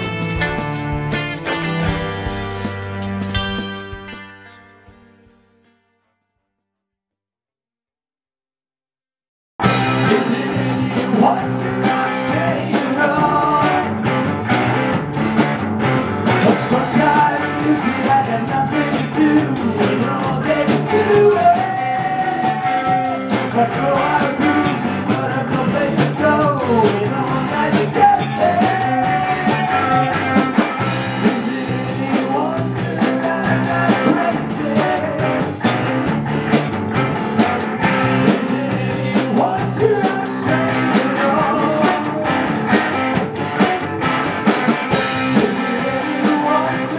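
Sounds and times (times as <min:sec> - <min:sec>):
rock and roll song: 0:00.0 - 0:05.7, 0:09.6 - 0:46.9.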